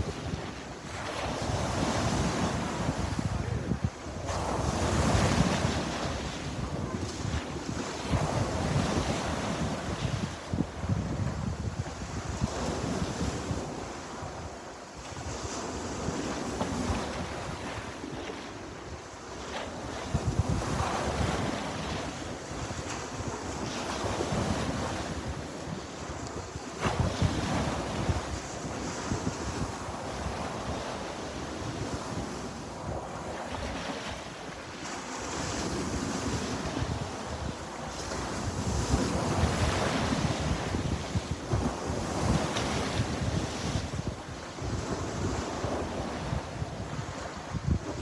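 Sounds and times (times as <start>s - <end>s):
sea waves breaking on shore: 0.0s - 48.0s
wind buffeting microphone: 0.0s - 48.0s.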